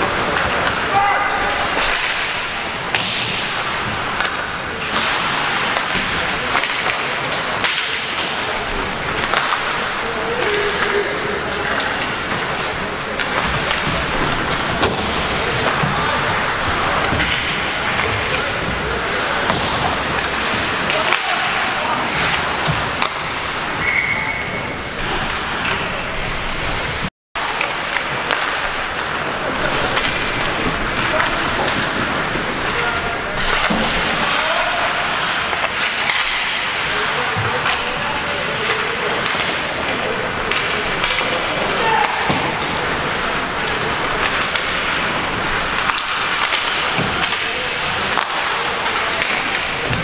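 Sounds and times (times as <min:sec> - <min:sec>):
stick and puck clacks: 0:00.0 - 0:50.0.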